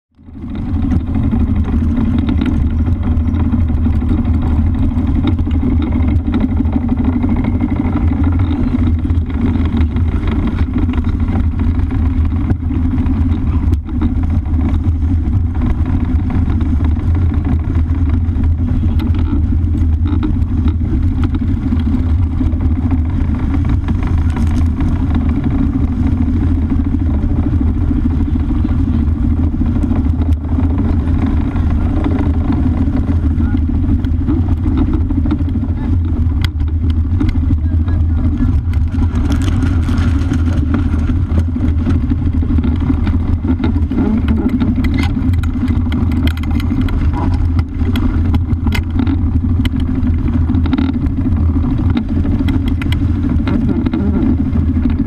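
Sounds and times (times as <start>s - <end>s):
water rushing along hull: 0.2s - 55.0s
wind buffeting microphone: 0.2s - 55.0s.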